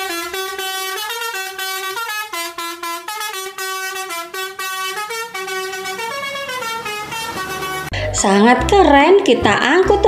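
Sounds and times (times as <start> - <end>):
multi-tone bus horn tune: 0.0 - 10.0.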